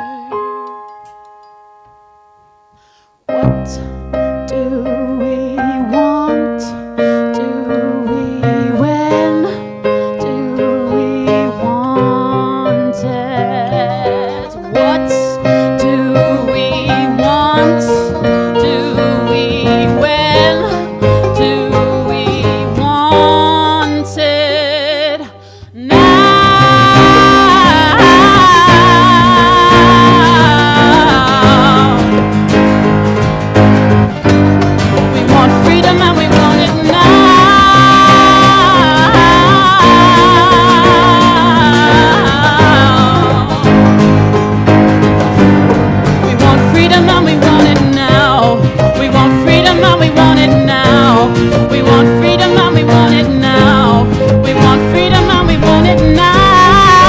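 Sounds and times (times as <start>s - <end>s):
person singing with vibrato: 0.0s - 1.0s, 3.4s - 32.7s, 35.0s - 44.4s, 46.1s - 57.0s
instrumental accompaniment: 0.0s - 57.0s.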